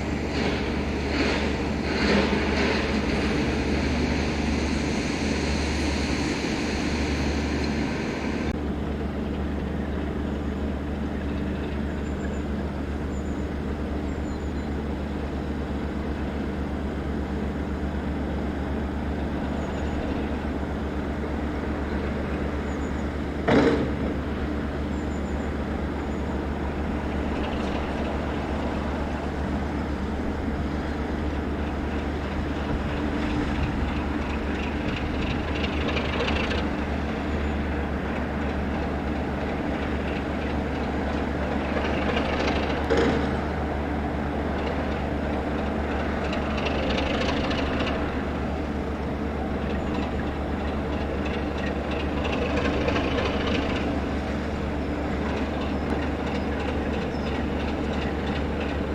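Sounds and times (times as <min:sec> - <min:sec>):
diesel locomotive engine running: 0:00.0 - 0:58.9.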